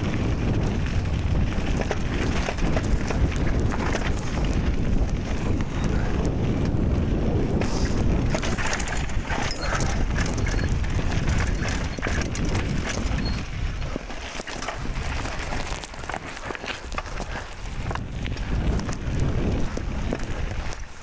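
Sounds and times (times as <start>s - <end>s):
bike rattling and clattering: 0.0s - 21.0s
wind rumbling on microphone: 0.0s - 21.0s.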